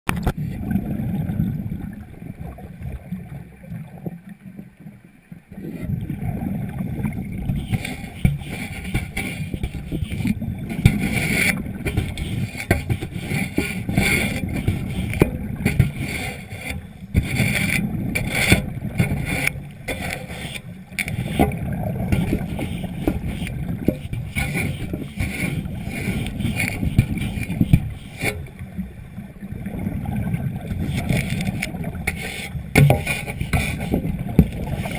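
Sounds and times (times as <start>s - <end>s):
muffled underwater wash: 0.1s - 34.9s.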